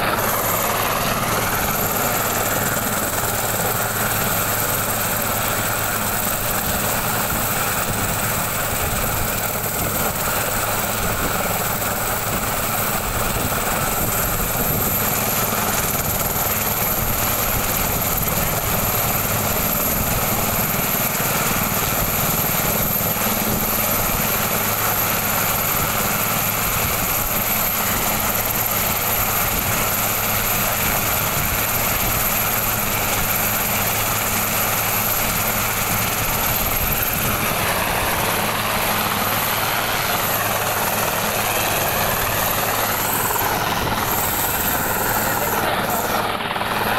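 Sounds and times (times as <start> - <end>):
helicopter rotor hum: 0.0 - 46.9
helicopter turbine whine: 0.0 - 46.9.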